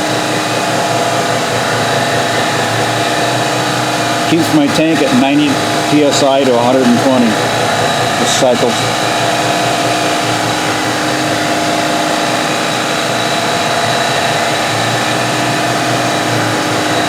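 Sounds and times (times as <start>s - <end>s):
air compressor running: 0.0s - 17.0s
milling machine spindle cutting: 0.0s - 17.0s.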